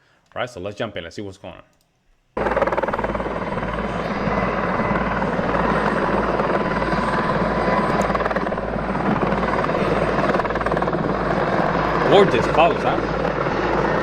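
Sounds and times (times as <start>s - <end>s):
faint steady whine: 1.7s - 14.0s
helicopter rotor and engines: 2.4s - 14.0s.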